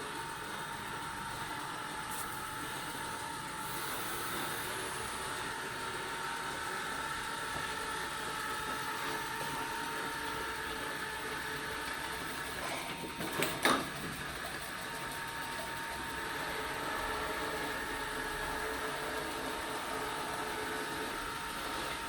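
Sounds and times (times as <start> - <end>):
robot vacuum motor whine: 0.0 - 22.0.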